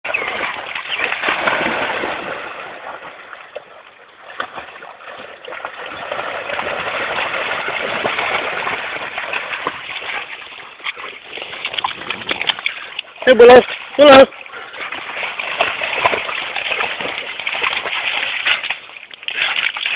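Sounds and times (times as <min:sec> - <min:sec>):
dogs splashing in water: 0:00.1 - 0:19.9.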